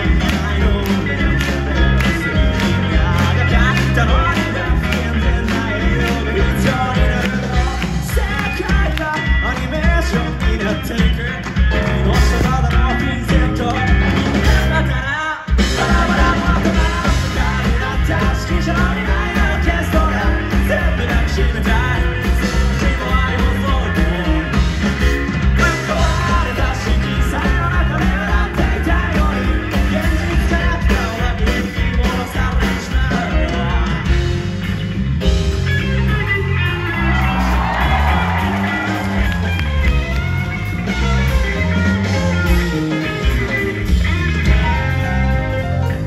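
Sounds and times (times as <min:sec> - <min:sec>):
live rock band with singing: 0:00.0 - 0:46.0.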